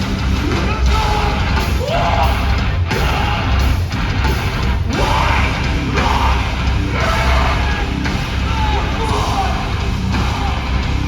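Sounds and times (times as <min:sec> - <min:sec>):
drums: 0:00.0 - 0:11.0
heavy distorted guitars: 0:00.0 - 0:11.0
shouted vocals: 0:00.4 - 0:11.0.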